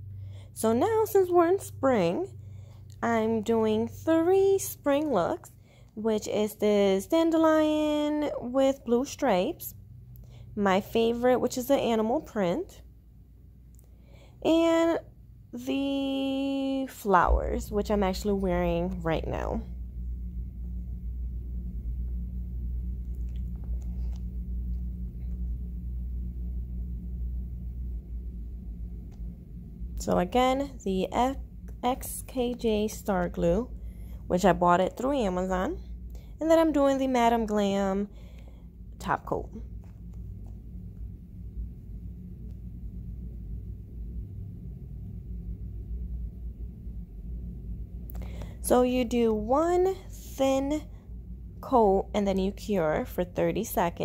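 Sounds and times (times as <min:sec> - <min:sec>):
low rumble: 0:00.0 - 0:54.0
steady low hum: 0:00.0 - 0:54.0.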